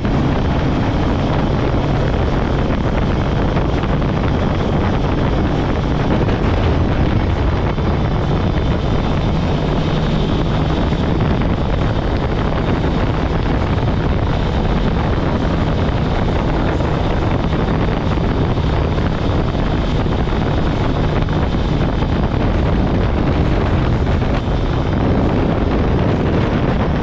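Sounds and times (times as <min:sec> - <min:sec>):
motorcycle engine running: 0:00.0 - 0:27.0
wind rushing on microphone: 0:00.0 - 0:27.0.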